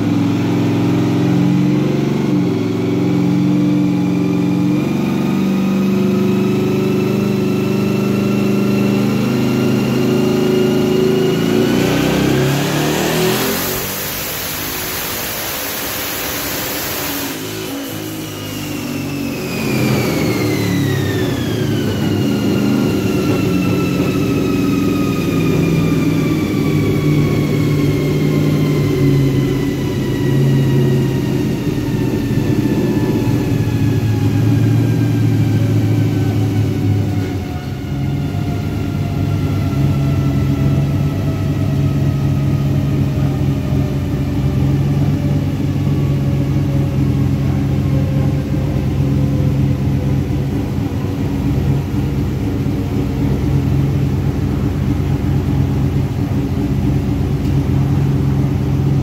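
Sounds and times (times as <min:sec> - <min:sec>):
driveline whine falling in pitch: 0:00.0 - 0:59.0
engine running: 0:00.0 - 0:59.0.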